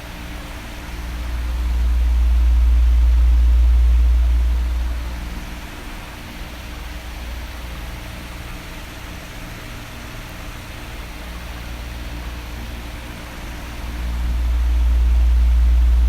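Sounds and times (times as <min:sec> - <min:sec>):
electric fan blowing: 0:00.0 - 0:16.0.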